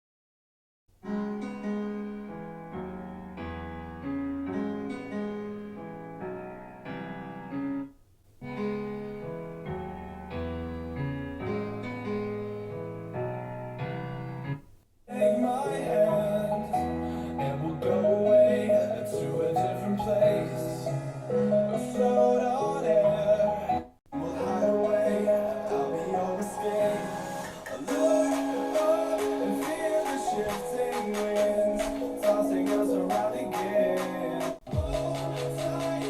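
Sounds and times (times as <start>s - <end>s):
piano music from a speaker: 1.0s - 36.0s
fuller brighter music: 1.2s - 36.0s.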